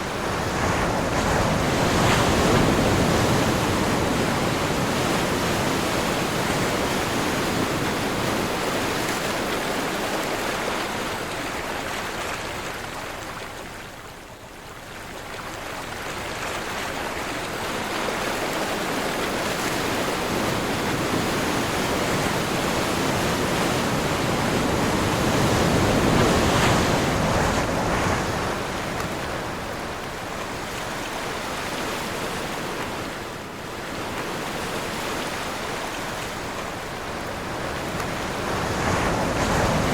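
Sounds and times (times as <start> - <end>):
ocean surf breaking: 0.0 - 11.5, 17.7 - 39.9
wind: 0.0 - 39.9.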